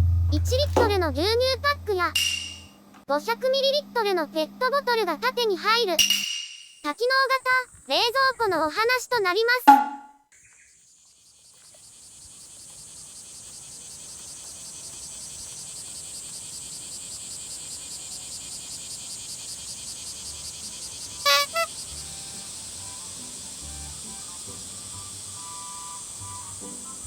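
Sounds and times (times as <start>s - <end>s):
insects buzzing: 3.3s - 9.6s, 10.4s - 27.0s.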